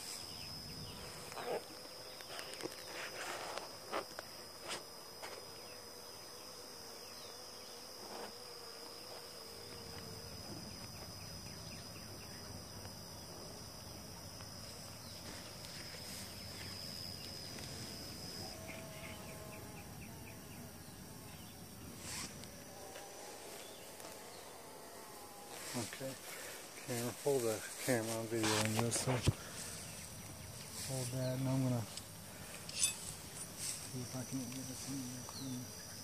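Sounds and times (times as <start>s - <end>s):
high-pitched insect call: 0.0s - 36.0s
honeybees buzzing: 0.0s - 36.0s.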